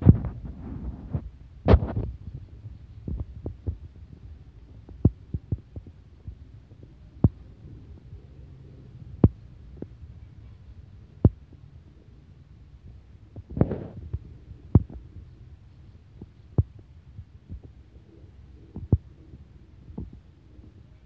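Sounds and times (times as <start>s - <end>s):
dull low thumps: 0.0s - 10.1s, 12.8s - 20.3s
low steady rumble: 0.0s - 21.0s.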